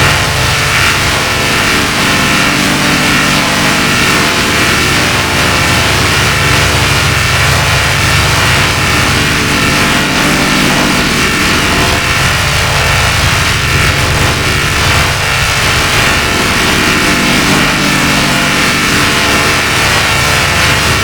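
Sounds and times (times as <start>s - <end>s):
electronic drone over hiss: 0.0s - 21.0s.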